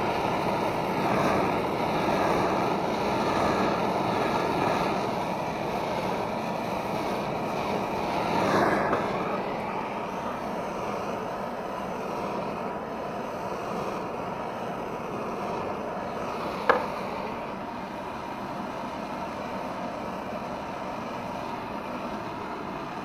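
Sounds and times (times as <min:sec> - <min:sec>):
blowtorch flame hissing: 0:00.0 - 0:23.0.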